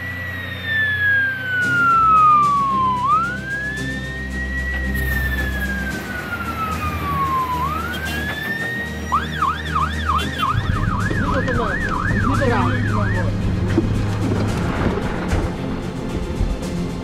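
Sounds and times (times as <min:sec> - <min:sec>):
fire engine siren wailing: 0:00.0 - 0:15.7
truck engine humming: 0:00.0 - 0:17.0.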